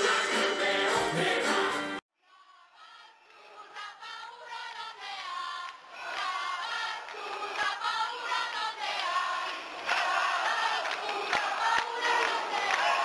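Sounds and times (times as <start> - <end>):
group of voices singing in chorus: 0.0 - 13.0.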